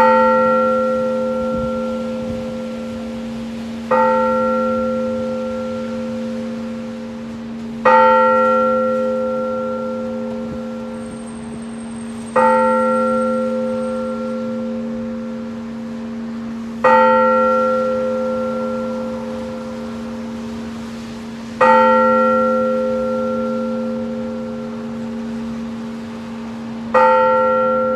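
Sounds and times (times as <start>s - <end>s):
church bell tolling: 0.0s - 27.9s.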